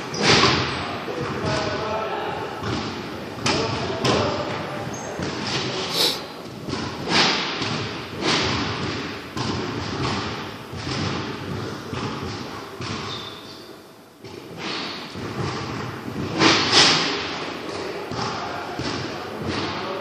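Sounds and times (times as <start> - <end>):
sports hall background noise: 0.0 - 20.0.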